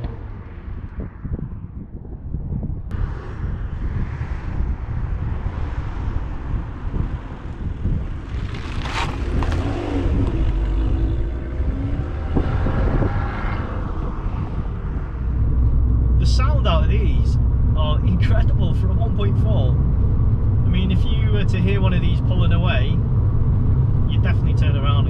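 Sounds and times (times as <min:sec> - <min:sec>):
car engine and exhaust: 0:00.0 - 0:25.0
wind on microphone: 0:00.0 - 0:25.0.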